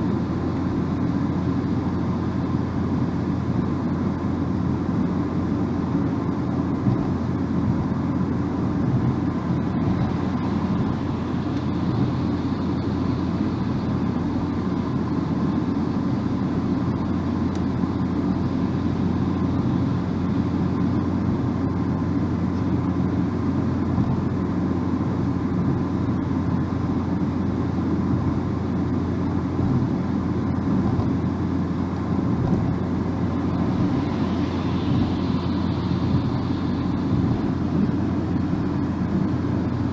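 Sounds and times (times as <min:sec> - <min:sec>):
engine hum: 0:00.0 - 0:39.9
tyre and road noise: 0:00.0 - 0:39.9.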